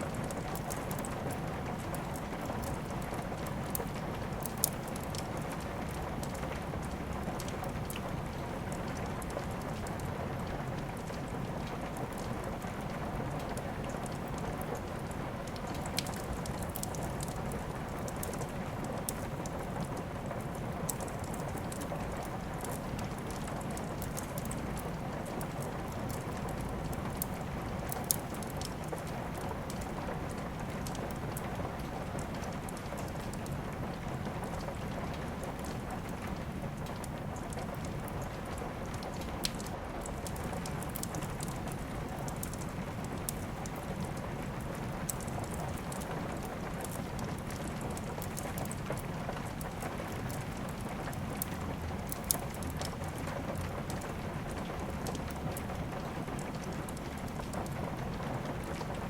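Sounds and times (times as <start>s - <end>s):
steady rain: 0.0s - 59.0s
wood fire crackling and popping: 0.0s - 59.0s.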